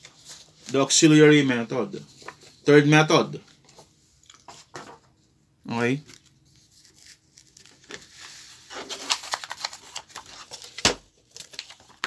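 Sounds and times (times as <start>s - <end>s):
paper rustling: 0.0s - 5.1s, 6.1s - 12.0s.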